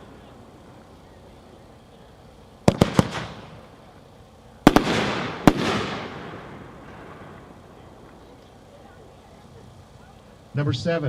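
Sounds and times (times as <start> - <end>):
firework bangs with hiss: 0.0 - 10.5.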